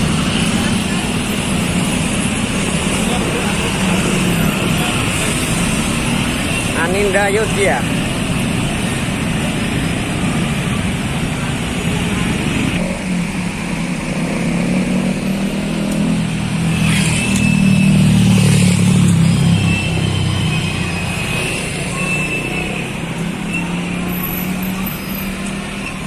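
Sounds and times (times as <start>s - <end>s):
bus diesel engine: 0.0s - 26.0s
street traffic: 0.0s - 26.0s.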